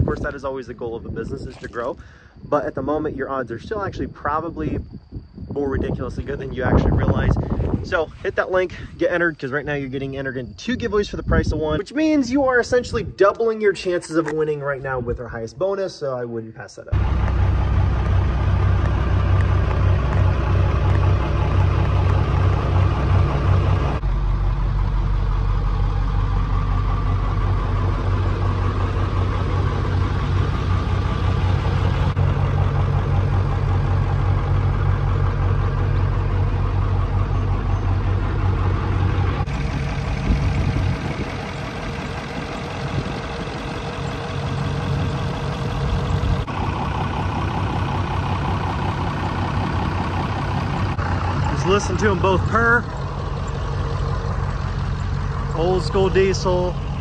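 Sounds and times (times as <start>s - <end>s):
diesel engines idling: 0.0s - 15.5s, 16.9s - 57.0s.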